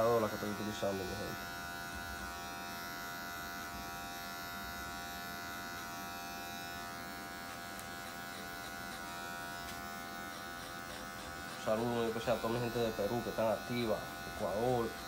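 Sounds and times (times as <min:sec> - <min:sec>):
electric hair clipper buzzing: 0:00.0 - 0:15.0.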